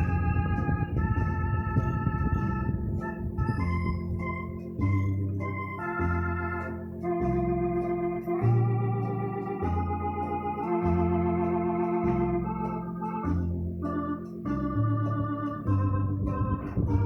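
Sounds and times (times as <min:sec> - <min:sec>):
electronic organ chords: 0:00.0 - 0:17.0
organ bass line: 0:00.0 - 0:17.0.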